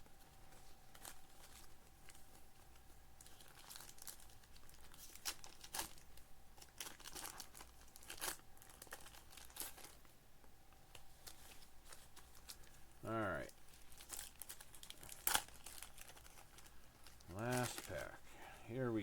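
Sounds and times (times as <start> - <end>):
foil wrappers crinkling: 0.0 - 10.1, 10.9 - 18.5
sharp crackles of foil: 0.0 - 10.1, 10.9 - 18.5.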